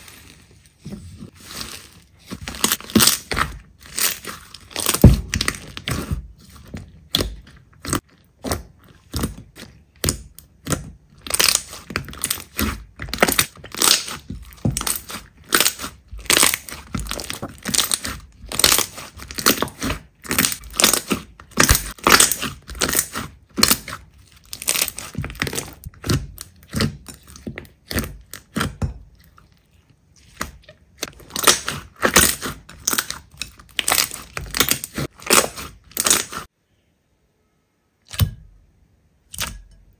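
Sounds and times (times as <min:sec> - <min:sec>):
slime crackling and popping: 0:01.3 - 0:28.8, 0:30.2 - 0:36.5.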